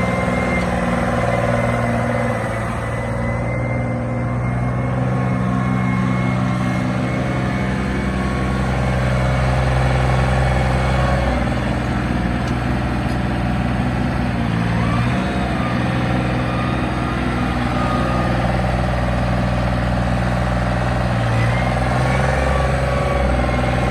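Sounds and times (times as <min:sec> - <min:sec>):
backhoe engine running: 0:00.0 - 0:23.9.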